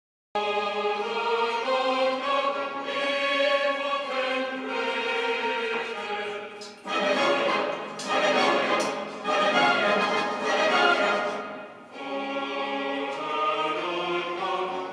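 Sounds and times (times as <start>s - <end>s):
choir singing held chords: 0.4s - 14.9s.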